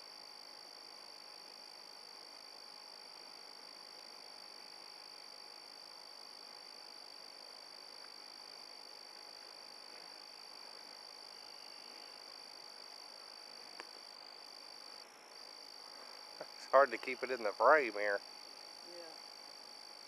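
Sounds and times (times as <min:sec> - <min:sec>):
frogs or insects trilling: 0:00.0 - 0:20.0.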